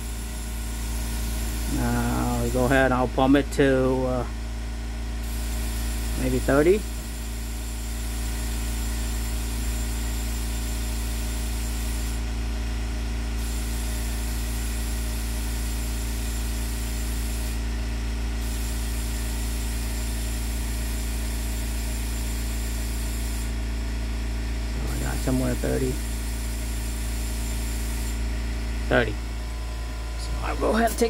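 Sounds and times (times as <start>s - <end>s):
air compressor humming: 0.0s - 31.0s.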